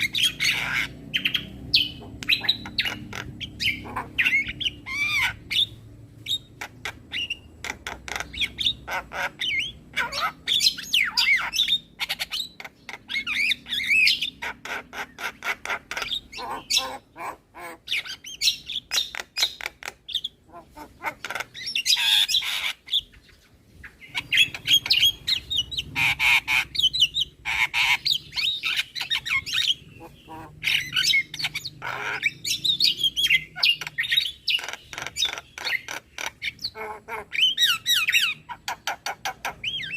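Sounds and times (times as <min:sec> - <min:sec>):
myna bird singing: 0:00.0 - 0:39.9.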